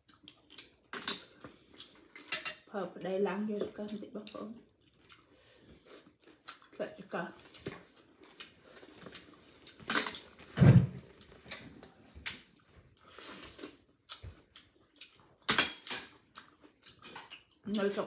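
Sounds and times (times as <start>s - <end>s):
chewing: 0.0s - 2.4s, 3.9s - 10.4s, 11.1s - 18.0s.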